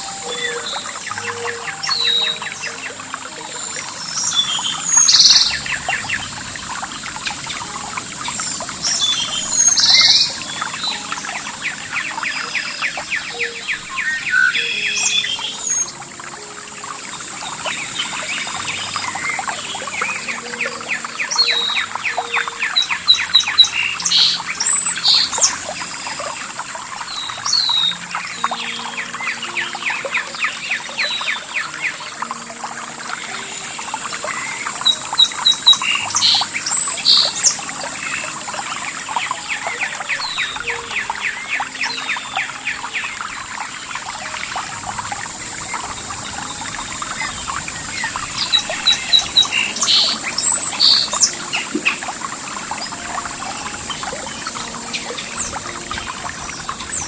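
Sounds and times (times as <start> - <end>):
birds singing and calling: 0.0 - 57.0.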